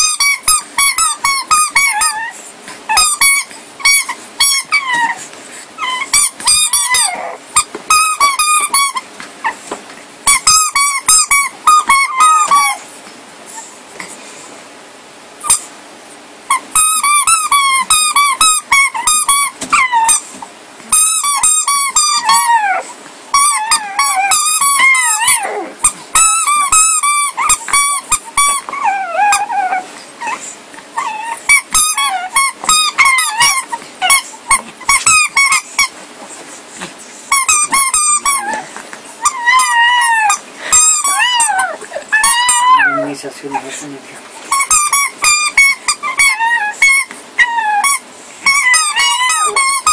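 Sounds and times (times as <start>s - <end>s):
puppy squealing: 0.0s - 12.9s, 15.4s - 15.7s, 16.5s - 36.0s, 36.8s - 49.9s.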